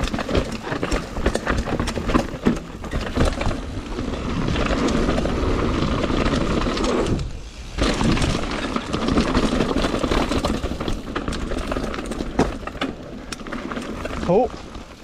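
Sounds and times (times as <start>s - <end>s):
bike rattling: 0.0s - 15.0s
bike tyres rolling over dirt: 0.0s - 15.0s.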